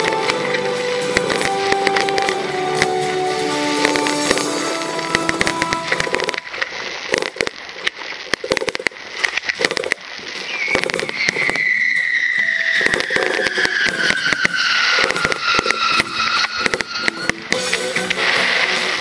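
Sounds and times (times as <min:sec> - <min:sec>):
falling firework whistle: 0:00.0 - 0:07.6, 0:09.6 - 0:19.0
fireworks crackling and popping: 0:00.0 - 0:19.0.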